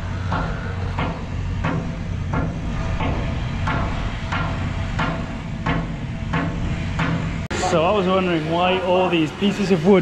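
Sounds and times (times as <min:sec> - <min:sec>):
hammer blows: 0:00.0 - 0:09.7
low machine hum: 0:00.0 - 0:10.0.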